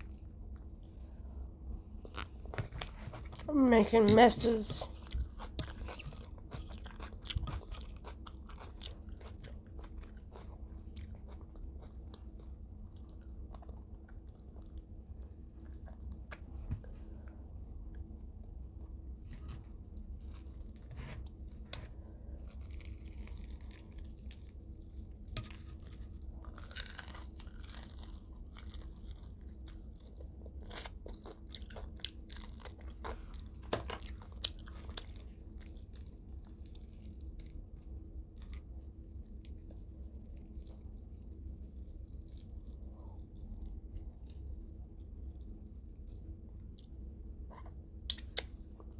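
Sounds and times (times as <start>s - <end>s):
steady low hum: 0.0s - 48.9s
chewing crispy fried chicken: 1.9s - 48.9s.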